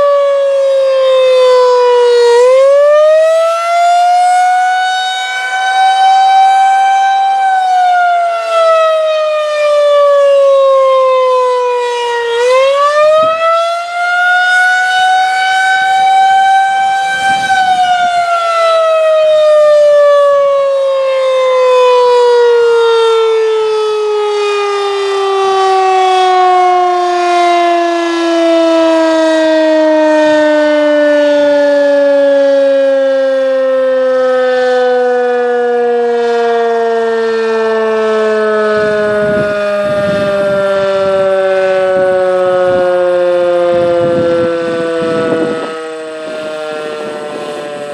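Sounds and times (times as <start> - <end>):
rotating warning siren: 0.0 - 47.9.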